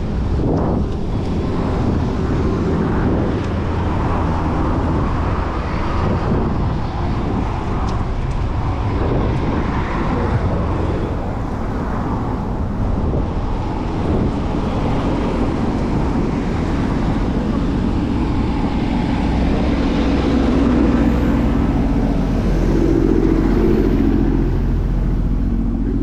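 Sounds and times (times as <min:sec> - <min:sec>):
city road traffic: 0:00.0 - 0:26.0
wind on microphone: 0:00.0 - 0:26.0.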